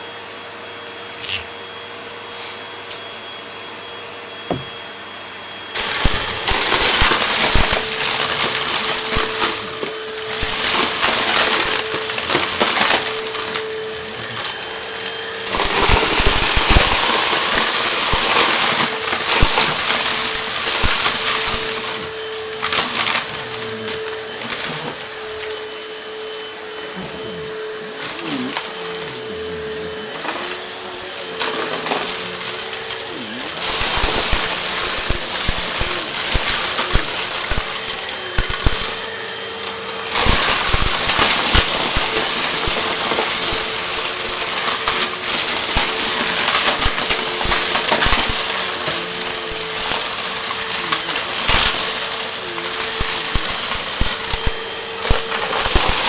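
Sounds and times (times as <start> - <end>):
vacuum cleaner motor hum: 0.0 - 56.0
debris crackling through vacuum: 5.8 - 25.7, 27.9 - 56.0.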